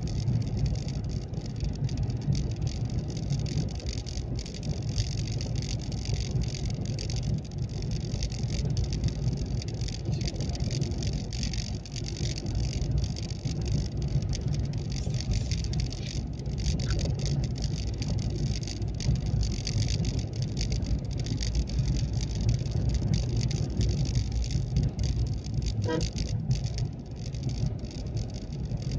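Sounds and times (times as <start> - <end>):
car engine and tyres rumbling: 0.0 - 28.9
clicks and rattles: 0.0 - 28.9.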